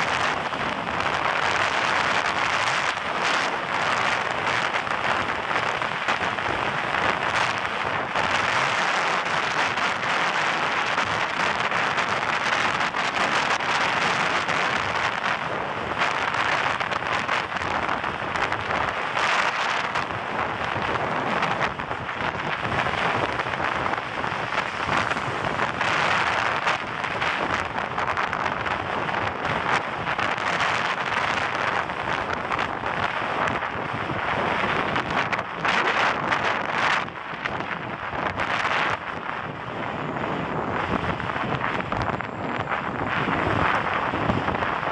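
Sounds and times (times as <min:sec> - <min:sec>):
bicycle road noise: 0:00.0 - 0:44.9
wind on microphone: 0:00.0 - 0:44.9.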